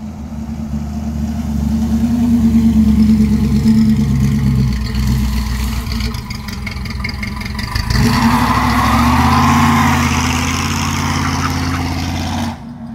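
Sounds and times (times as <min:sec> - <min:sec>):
pickup truck engine accelerating: 0:00.0 - 0:12.9.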